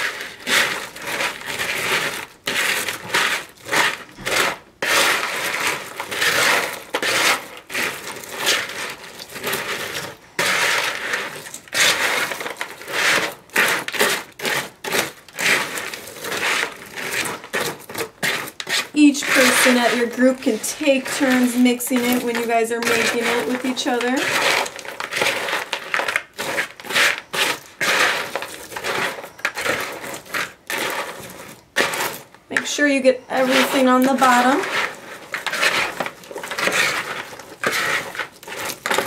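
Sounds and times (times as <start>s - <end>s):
cereal stirred in plastic bowl: 0.0s - 39.0s.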